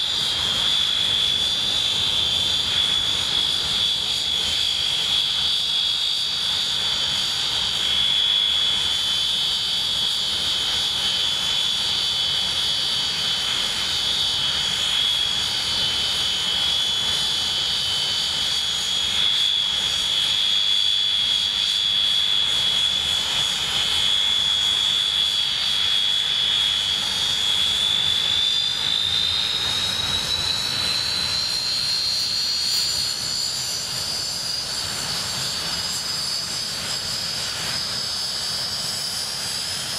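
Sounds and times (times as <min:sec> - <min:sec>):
jet engine whine: 0:00.0 - 0:39.9.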